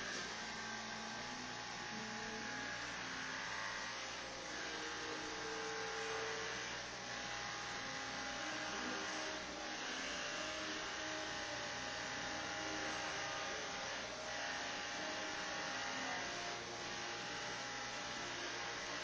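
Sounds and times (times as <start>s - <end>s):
small electric motor humming: 0.0s - 19.0s.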